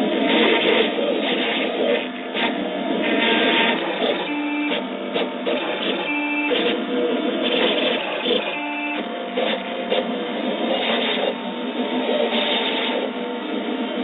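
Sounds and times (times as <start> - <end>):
stepper motors whirring and whining: 0.0 - 14.0.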